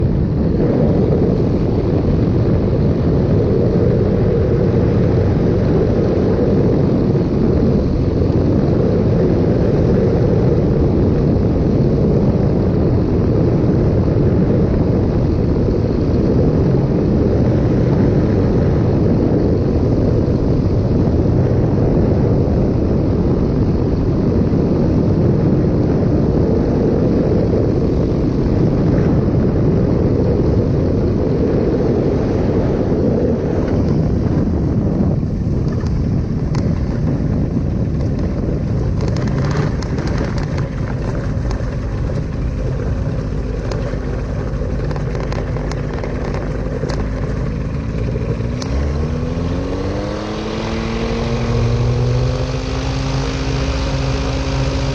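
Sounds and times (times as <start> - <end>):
airplane engine and propeller: 0.0 - 54.9
rushing air: 0.0 - 54.9.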